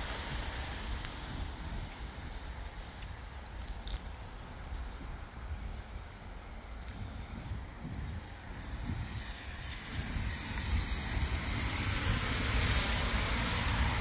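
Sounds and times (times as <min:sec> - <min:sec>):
traffic hiss on wet road: 0:00.0 - 0:03.6, 0:04.3 - 0:14.0
low street rumble: 0:00.0 - 0:14.0.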